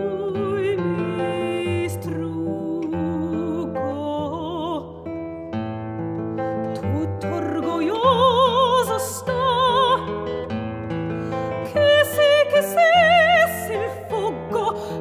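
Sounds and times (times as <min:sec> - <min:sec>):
woman singing classical style: 0:00.0 - 0:05.5, 0:06.6 - 0:10.6, 0:11.2 - 0:15.0
plucked acoustic guitar: 0:00.0 - 0:15.0.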